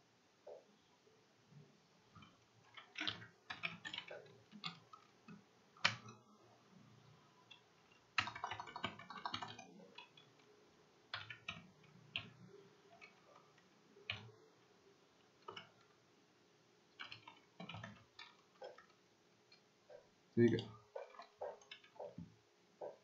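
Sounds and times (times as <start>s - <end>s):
keyboard typing: 2.2s - 6.4s, 7.0s - 16.0s, 16.9s - 23.0s.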